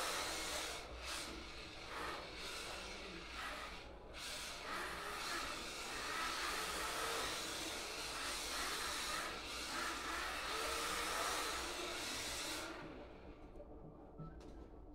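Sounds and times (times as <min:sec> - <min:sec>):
small electric motors whining: 0:00.0 - 0:13.3.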